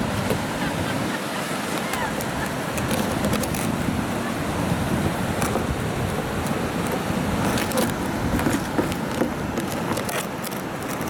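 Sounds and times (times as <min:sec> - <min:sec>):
wind buffeting microphone: 0:00.0 - 0:10.1
surf rushing: 0:00.0 - 0:11.0.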